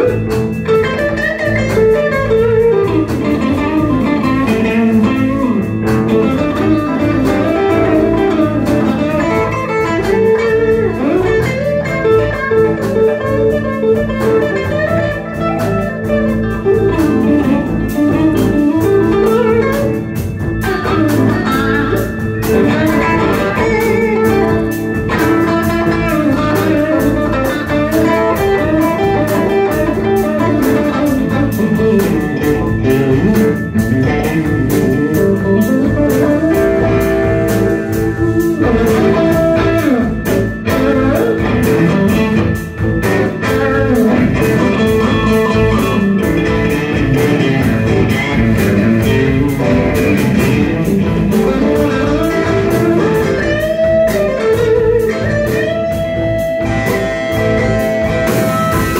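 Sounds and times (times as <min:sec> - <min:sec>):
bass guitar: 0:00.0 - 0:58.9
drum kit: 0:00.0 - 0:58.9
electric guitar lead with bent notes: 0:00.0 - 0:58.9.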